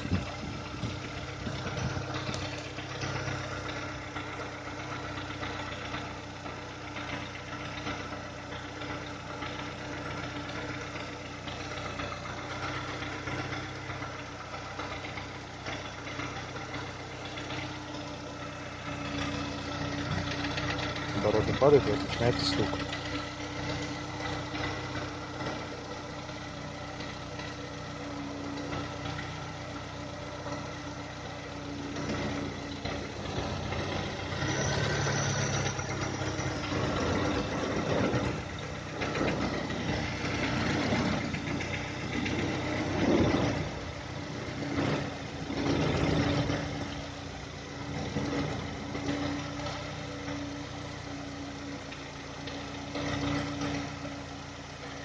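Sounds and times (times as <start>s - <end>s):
engine knocking: 0.0s - 55.0s
petrol engine idling: 0.0s - 55.0s.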